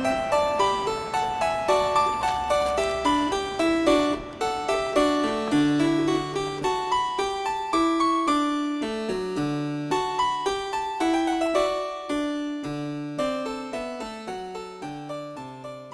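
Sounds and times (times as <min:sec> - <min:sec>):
keyboard melody with bass notes: 0:00.0 - 0:15.9.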